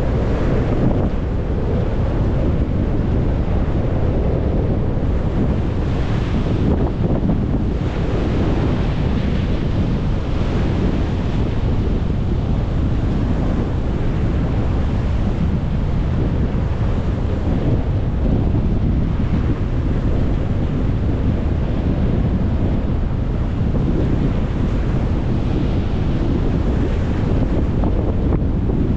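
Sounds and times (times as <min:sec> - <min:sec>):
sea surf breaking: 0:00.0 - 0:28.9
wind buffeting microphone: 0:00.0 - 0:28.9.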